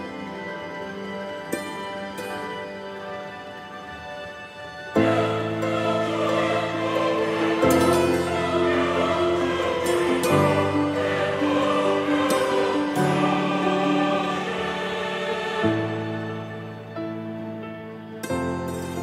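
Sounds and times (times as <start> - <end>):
slow sustained chords: 0.0 - 19.0.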